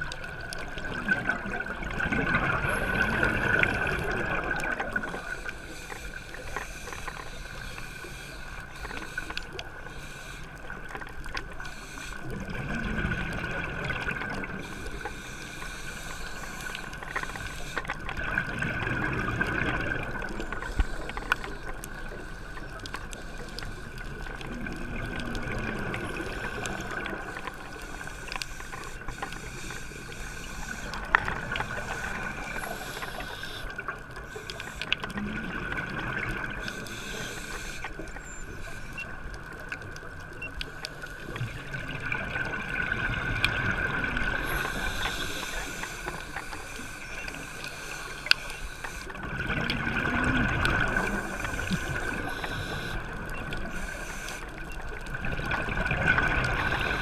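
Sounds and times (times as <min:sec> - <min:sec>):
gurgling exhaled bubbles underwater: 0:00.0 - 0:06.6, 0:10.6 - 0:15.2, 0:16.0 - 0:57.0.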